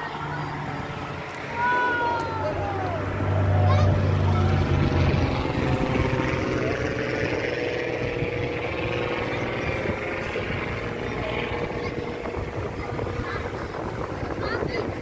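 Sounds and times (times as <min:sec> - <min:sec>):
aircraft engine drone flying past: 0:00.0 - 0:15.0.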